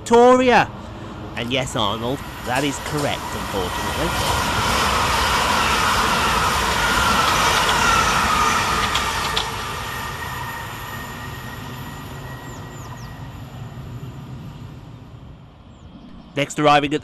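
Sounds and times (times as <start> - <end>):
wheels rushing on rail: 0.0 - 16.2
train passing: 0.0 - 17.0.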